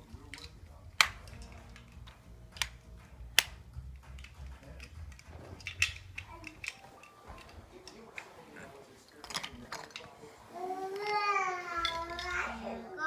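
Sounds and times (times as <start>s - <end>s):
plastic toys clicking: 0.0s - 8.4s, 9.1s - 10.2s, 10.9s - 12.6s.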